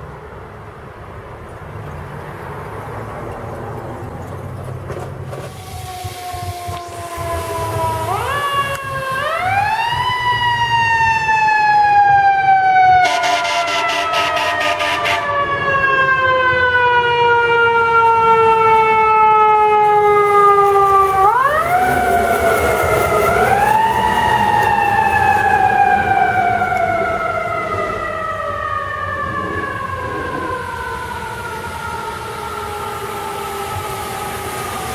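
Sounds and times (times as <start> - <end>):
fire engine siren wailing: 5.3 - 34.9.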